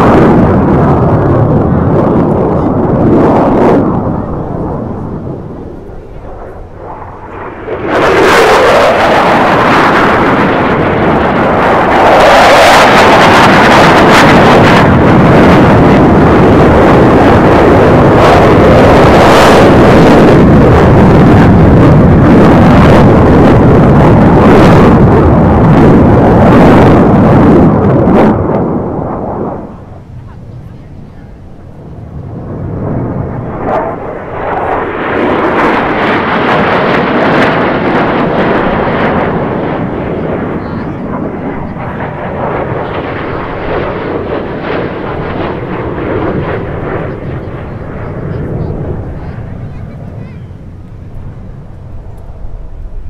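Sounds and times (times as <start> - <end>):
jet aircraft flying past: 0.0 - 53.0.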